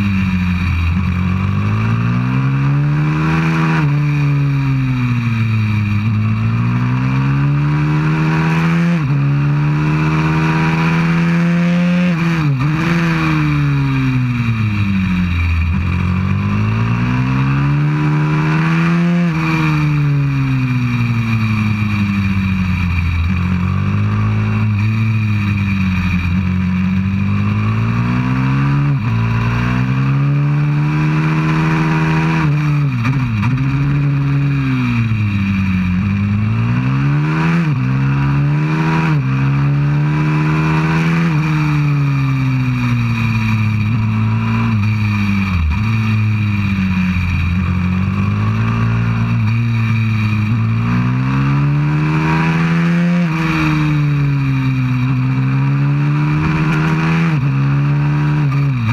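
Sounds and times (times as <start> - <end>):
motorbike engine revving: 0.0 - 58.9.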